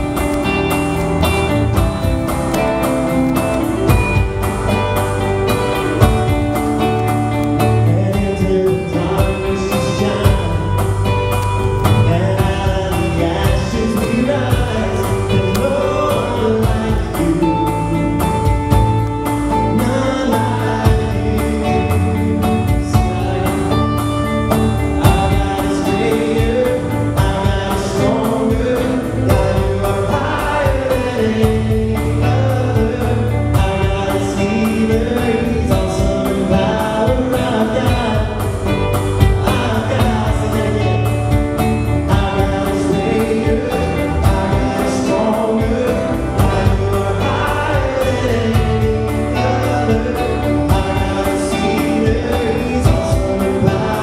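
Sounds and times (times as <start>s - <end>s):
man singing: 0.0s - 54.0s
worship band playing: 0.0s - 54.0s.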